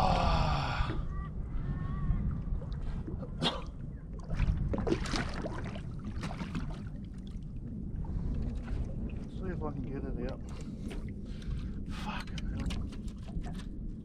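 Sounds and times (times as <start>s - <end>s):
wind and water rumble: 0.0s - 14.0s.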